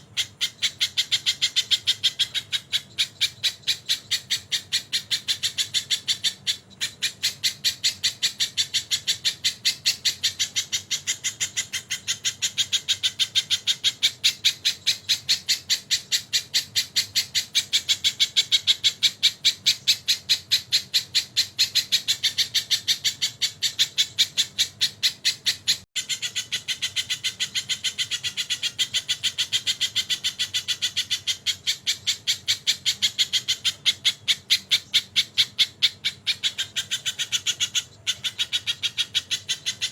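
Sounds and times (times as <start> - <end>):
bird sharp high calls: 0.0 - 39.9.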